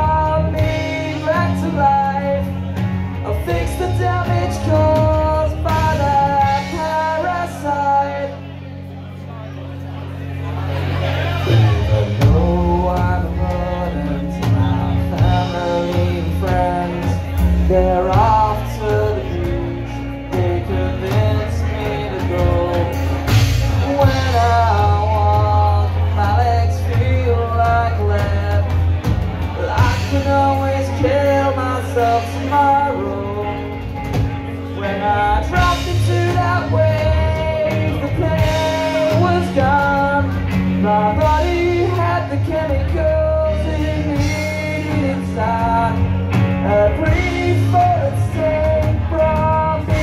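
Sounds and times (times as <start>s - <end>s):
drums: 0.0s - 50.0s
electric bass: 0.0s - 50.0s
electric guitars: 0.0s - 50.0s
man singing: 0.0s - 50.0s.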